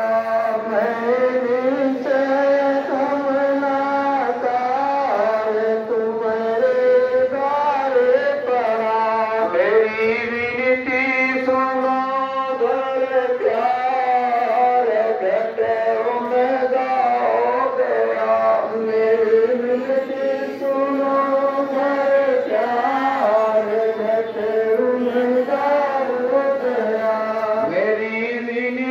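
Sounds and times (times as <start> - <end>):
devotional chant sung slowly: 0.0 - 28.9.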